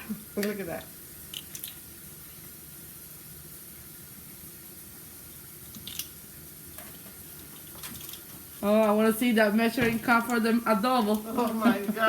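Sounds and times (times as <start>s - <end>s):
pot of water hissing: 0.0s - 12.0s.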